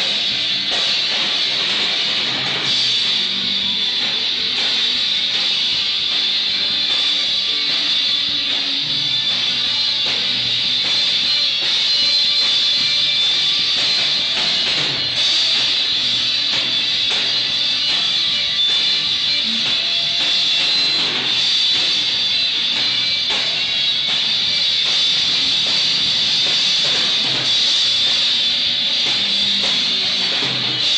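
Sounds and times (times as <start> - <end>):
drums: 0.0 - 30.9
strummed guitar: 0.0 - 30.9.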